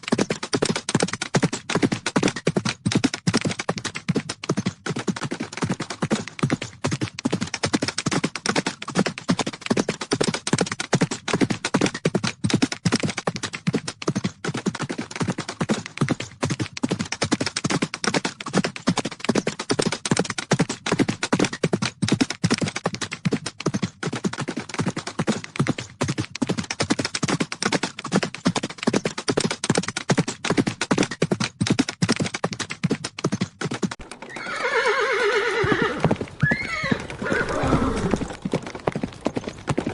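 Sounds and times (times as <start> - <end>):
horses' hooves galloping: 0.0 - 39.9.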